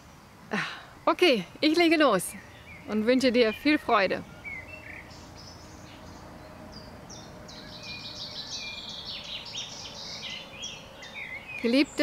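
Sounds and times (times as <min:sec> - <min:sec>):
birdsong chirps and trills: 0:00.0 - 0:12.0
faint background hiss: 0:00.0 - 0:12.0.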